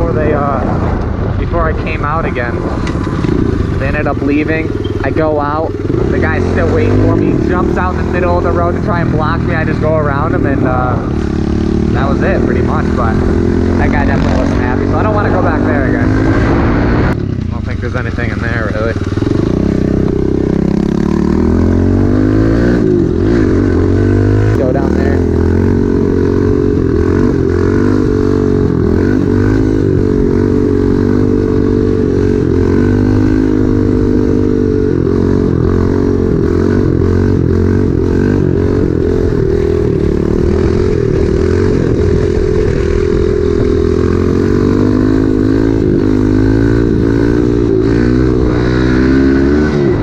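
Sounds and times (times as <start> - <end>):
pit bike engine revving: 0.0 - 50.0.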